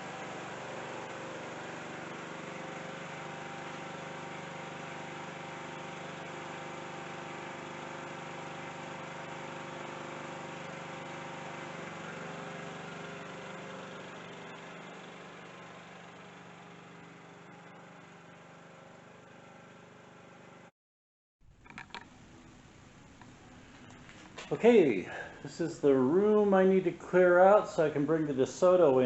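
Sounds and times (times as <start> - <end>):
lawn mower engine running: 0.0 - 20.7, 21.5 - 29.0.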